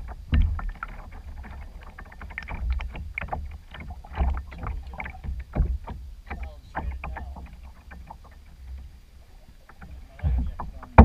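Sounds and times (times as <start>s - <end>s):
low steady rumble: 0.0s - 11.0s
paddle pulling through water: 0.0s - 11.0s
small splashes and drips: 0.0s - 11.0s.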